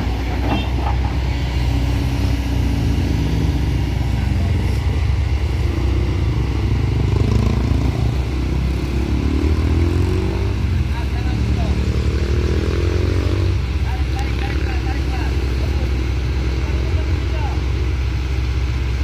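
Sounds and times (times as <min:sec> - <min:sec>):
truck diesel engine labouring: 0:00.0 - 0:19.0.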